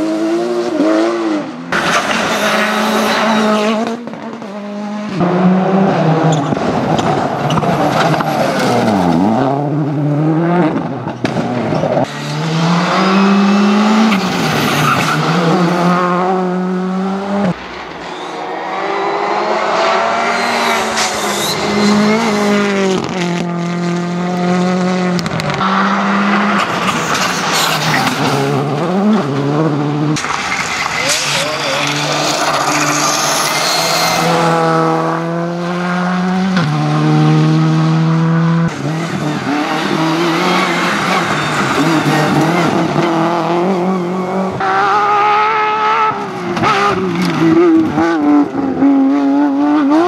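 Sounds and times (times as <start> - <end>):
rally car engines revving: 0.0 - 50.0.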